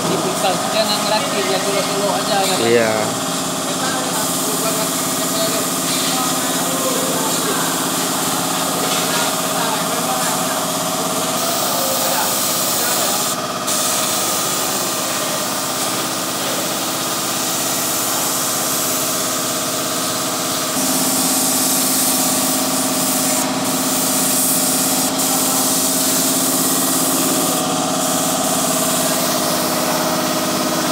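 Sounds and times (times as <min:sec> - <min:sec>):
air compressor running: 0:00.0 - 0:30.9.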